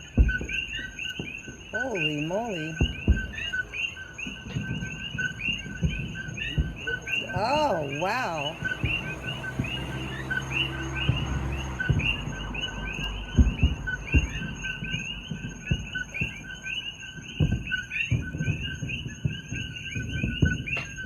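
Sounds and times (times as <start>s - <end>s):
distant fireworks booming: 0.0s - 21.0s
frogs chirping: 0.0s - 21.0s.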